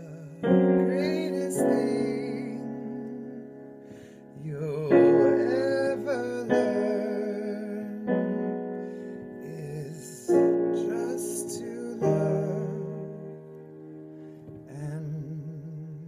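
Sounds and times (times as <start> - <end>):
man singing a slow ballad: 0.0 - 13.6, 14.6 - 16.0
piano chords: 0.0 - 16.0.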